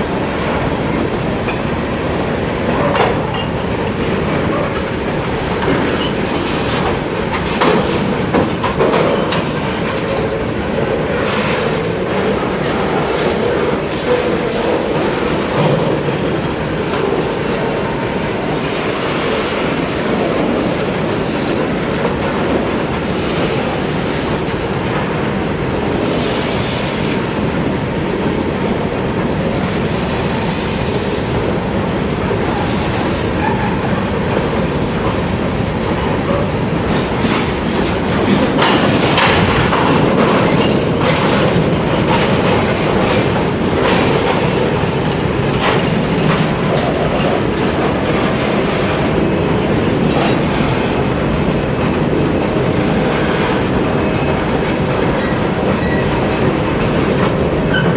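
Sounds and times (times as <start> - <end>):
train wheels rumbling on rail: 0.0 - 57.9
wheels clicking over rail joints: 0.1 - 57.9.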